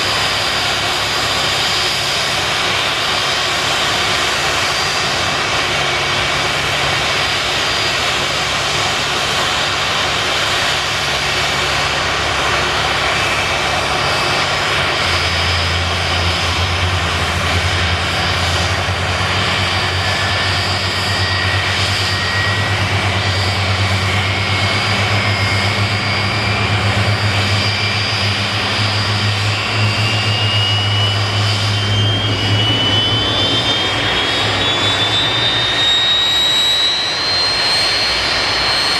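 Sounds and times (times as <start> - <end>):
engine whine rising in pitch: 0.0 - 38.9
jet engines running: 0.0 - 38.9.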